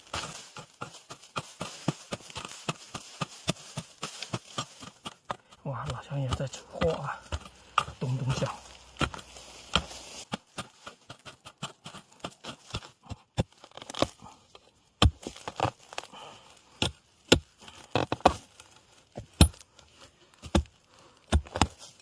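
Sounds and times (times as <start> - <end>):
hoe striking soil and roots: 0.0 - 22.0.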